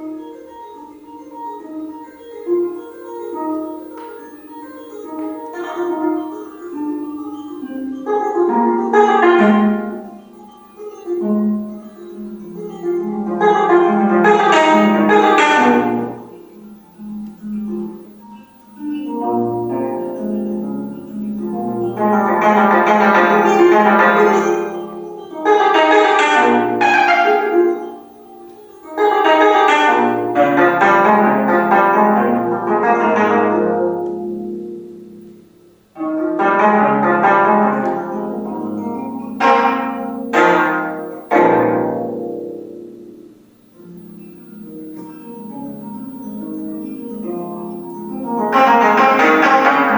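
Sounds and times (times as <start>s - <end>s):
plucked zither notes: 0.0s - 49.9s.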